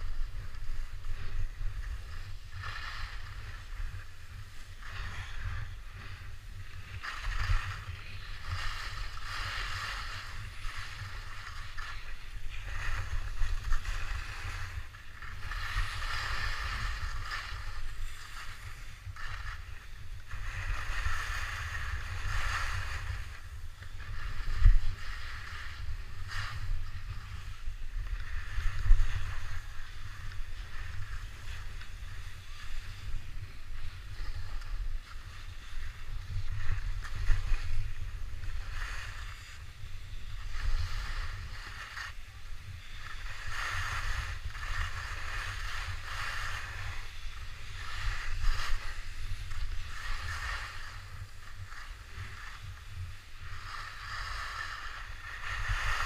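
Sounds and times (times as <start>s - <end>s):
skis scraping over snow: 0.0s - 56.0s.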